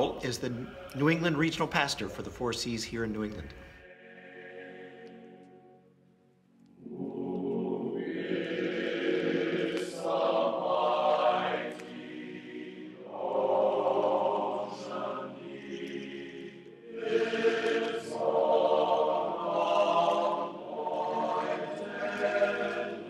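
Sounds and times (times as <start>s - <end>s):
choir singing long notes: 0.0s - 1.9s, 3.6s - 23.0s.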